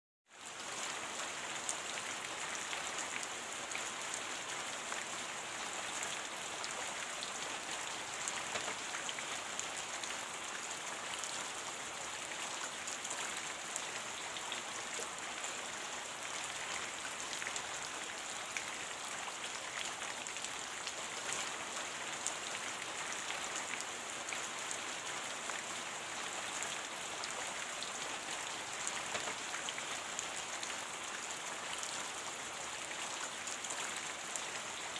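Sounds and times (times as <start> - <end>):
steady rain falling: 0.3 - 34.9.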